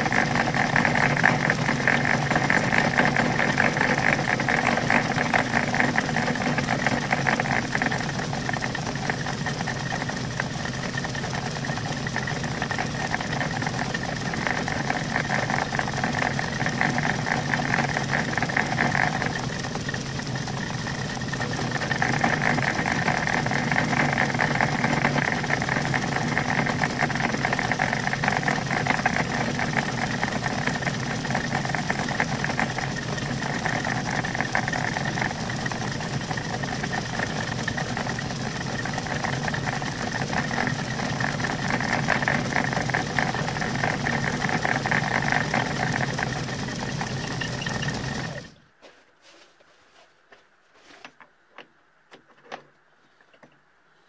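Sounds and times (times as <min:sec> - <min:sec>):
machine spindle running: 0:00.0 - 0:48.6.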